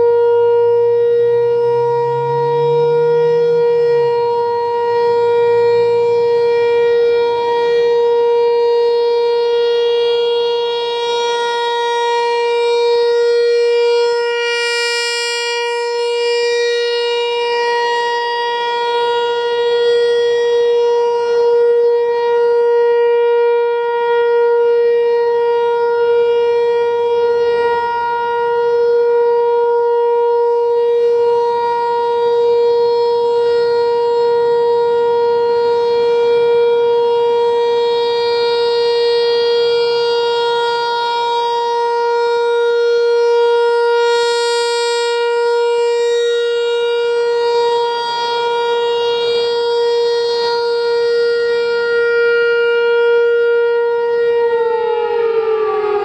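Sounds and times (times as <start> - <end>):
steady warning siren tone: 0.0 - 56.0.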